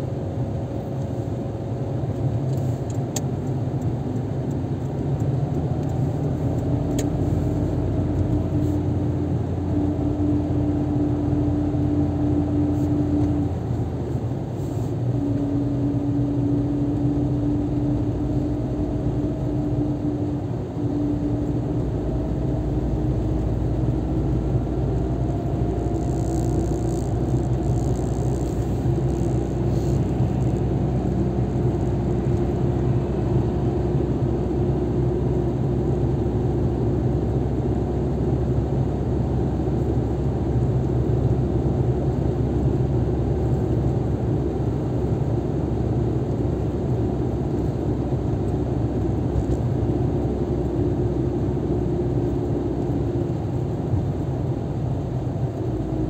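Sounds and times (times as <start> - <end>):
car engine hum: 0.0 - 56.0.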